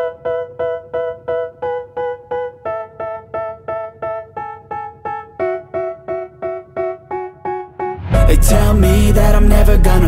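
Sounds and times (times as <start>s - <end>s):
keyboard repeating struck chords: 0.0s - 10.0s.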